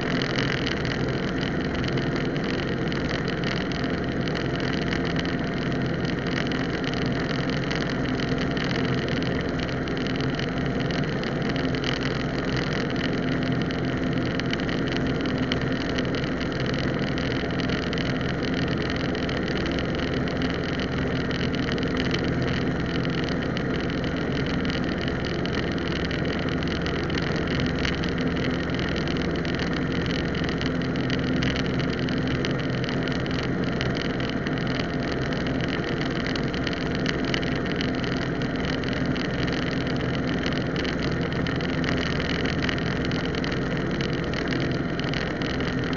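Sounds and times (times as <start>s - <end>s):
propeller airplane engine droning: 0.0s - 45.9s.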